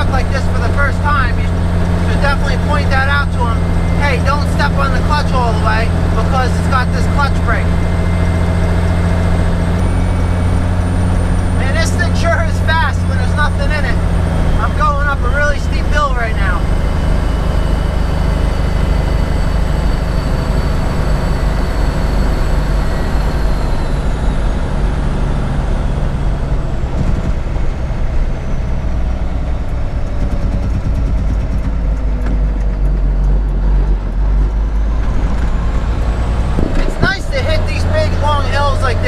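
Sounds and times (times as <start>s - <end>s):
truck diesel engine drone: 0.0s - 39.0s.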